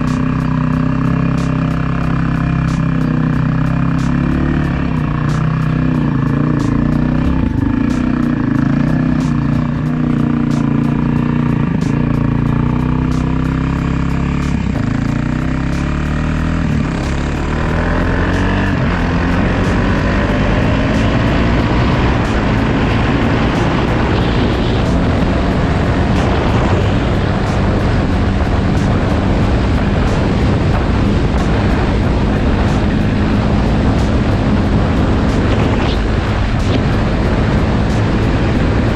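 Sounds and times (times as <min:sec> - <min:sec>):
dirt bike engine revving: 0:00.0 - 0:38.9
wind on microphone: 0:00.0 - 0:38.9.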